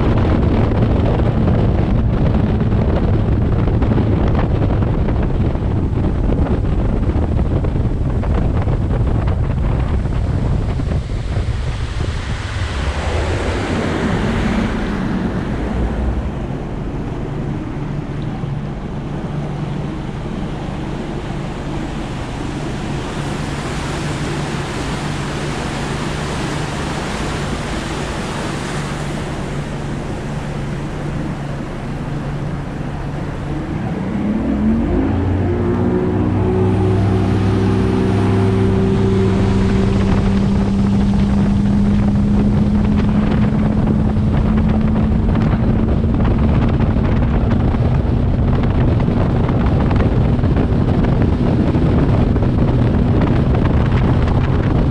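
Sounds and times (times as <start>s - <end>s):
outboard motor running: 0.0s - 54.9s
water rushing along hull: 0.0s - 54.9s
wind buffeting microphone: 0.0s - 54.9s.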